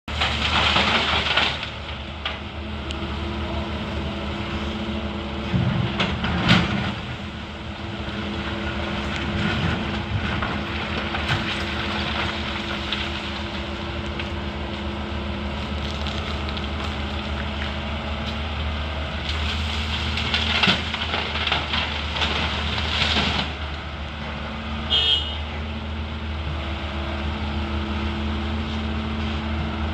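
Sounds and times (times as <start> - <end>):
excavator diesel engine running: 0.1 - 29.9.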